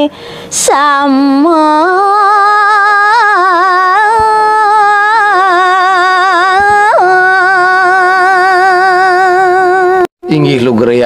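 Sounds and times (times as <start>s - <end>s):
woman singing unaccompanied: 0.0s - 10.1s.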